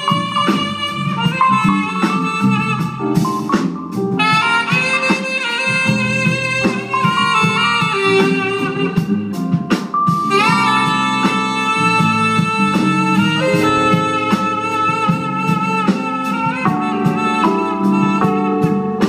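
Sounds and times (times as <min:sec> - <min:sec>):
jazz band with bass: 0:00.0 - 0:19.0
tenor saxophone: 0:00.0 - 0:19.0.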